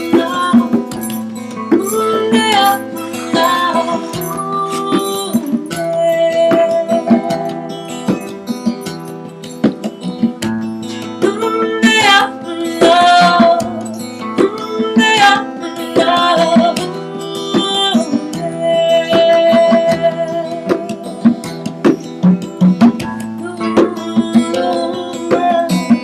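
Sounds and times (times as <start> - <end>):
hand drums: 0.0 - 26.0
plucked guitar: 0.0 - 26.0.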